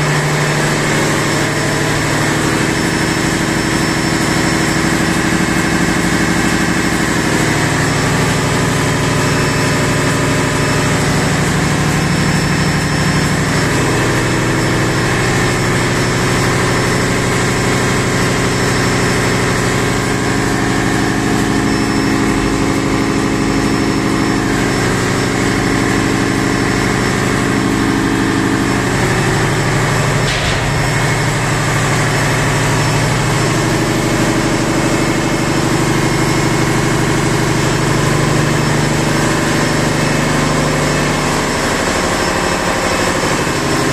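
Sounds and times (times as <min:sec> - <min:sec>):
engine room machinery drone: 0:00.0 - 0:43.9.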